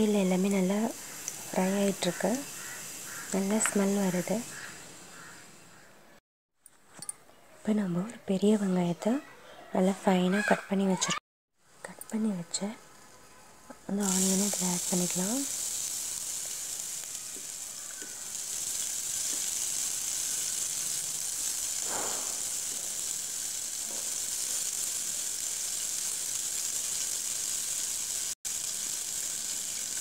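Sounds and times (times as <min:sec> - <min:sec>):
onion sizzling in hot oil: 0:00.0 - 0:05.9, 0:11.6 - 0:30.0.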